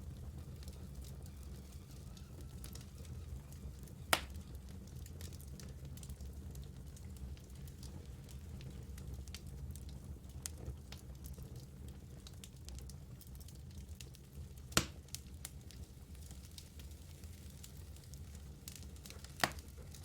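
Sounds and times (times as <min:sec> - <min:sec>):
flames rumbling: 0:00.0 - 0:20.0
wood fire crackling: 0:00.0 - 0:20.0.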